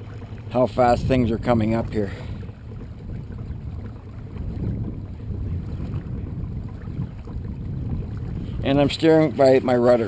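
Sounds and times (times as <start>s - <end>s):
water rushing along hull: 0.0s - 10.0s
wind rumble on microphone: 0.0s - 10.0s.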